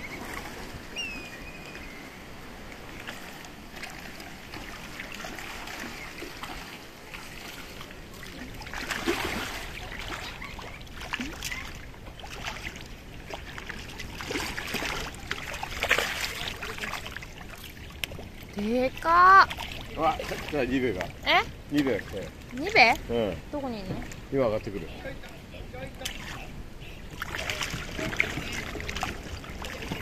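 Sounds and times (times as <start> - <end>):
fish splashing: 0.0 - 21.4, 26.0 - 30.0
water lapping against rocks: 0.0 - 30.0.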